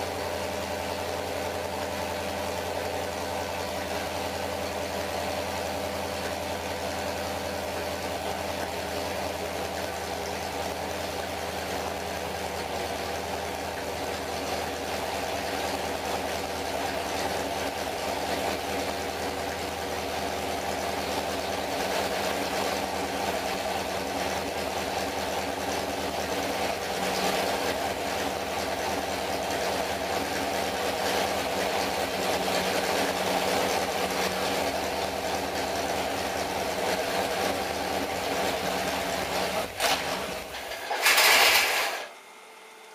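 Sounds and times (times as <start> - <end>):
engine running on dyno: 0.0 - 42.9.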